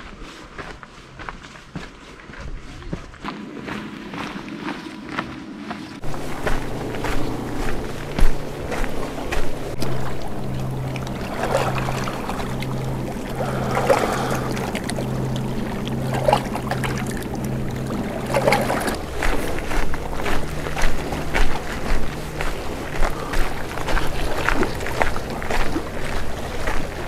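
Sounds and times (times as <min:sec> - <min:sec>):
footsteps on gravel: 0:00.0 - 0:27.0
low pulsing hum: 0:02.5 - 0:27.0.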